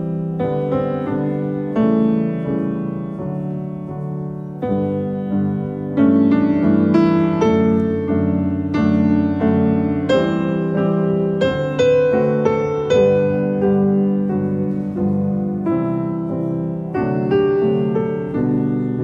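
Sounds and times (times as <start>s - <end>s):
slow piano chords and melody: 0.0s - 19.0s.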